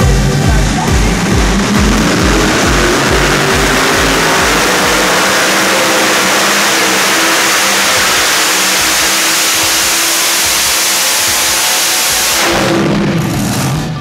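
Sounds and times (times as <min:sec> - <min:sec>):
dance music beat: 0:00.0 - 0:12.5
tractor engine roaring: 0:00.0 - 0:14.0.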